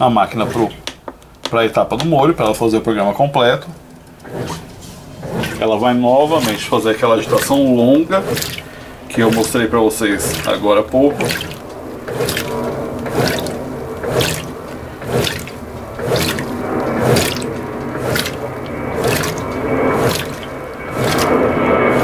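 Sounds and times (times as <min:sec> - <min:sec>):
washer agitator churning water: 0:00.0 - 0:22.0.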